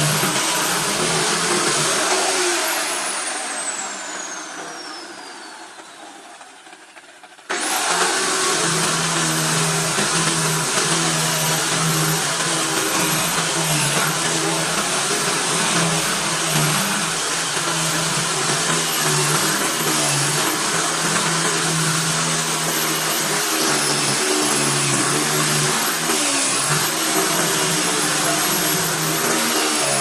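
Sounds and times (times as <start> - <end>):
power tool motor whining: 0.0 - 30.0.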